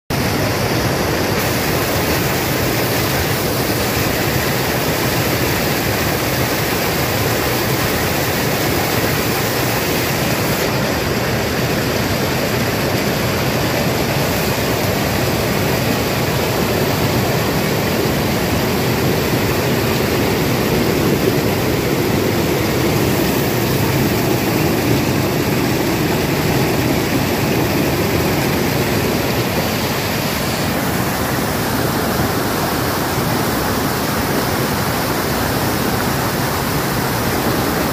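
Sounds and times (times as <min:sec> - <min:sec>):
water rushing over spillway: 0:00.1 - 0:37.9.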